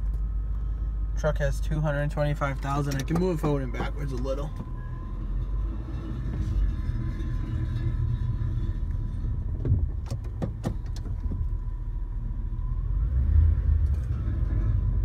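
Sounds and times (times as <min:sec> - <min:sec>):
thin steady whine: 0:00.0 - 0:15.0
vehicle engine rumble: 0:00.0 - 0:15.0.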